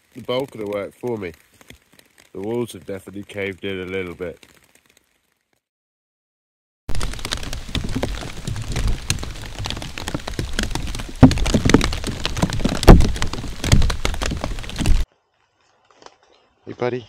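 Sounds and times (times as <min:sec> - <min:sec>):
heavy rain on a tarpaulin: 0:00.0 - 0:05.6, 0:06.9 - 0:15.1.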